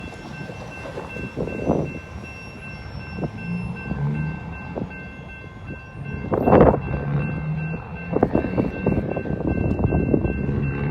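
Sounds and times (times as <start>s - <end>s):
freight train rumble: 0.0s - 10.9s
train clanks and knocks: 0.0s - 10.9s.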